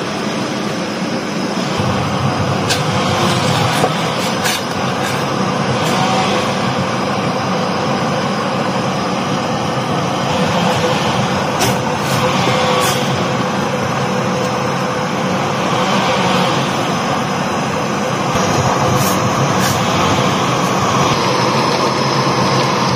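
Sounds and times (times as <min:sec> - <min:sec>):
pot of water boiling: 0:00.0 - 0:22.9.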